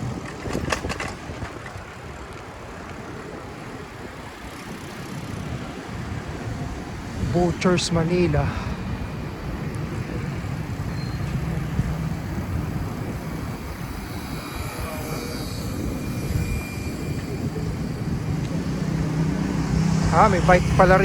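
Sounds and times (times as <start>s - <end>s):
traffic going by: 0.0s - 21.0s
wind on microphone: 0.0s - 21.0s.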